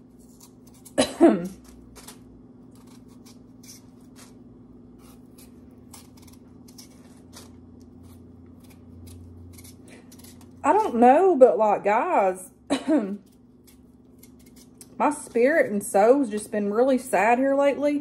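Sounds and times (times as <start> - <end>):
knife scraping potato skin: 0.0 - 11.2, 13.1 - 16.5
low hum: 0.0 - 18.0.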